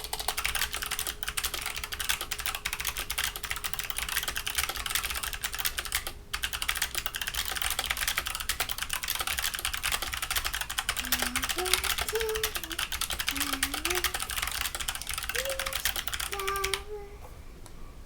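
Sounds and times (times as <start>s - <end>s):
mechanical keyboard clicking: 0.0s - 16.8s.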